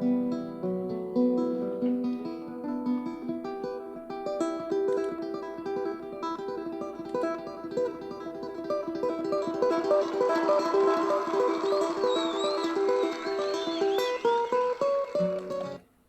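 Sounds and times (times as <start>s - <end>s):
picked guitar music from speaker: 0.0s - 15.8s.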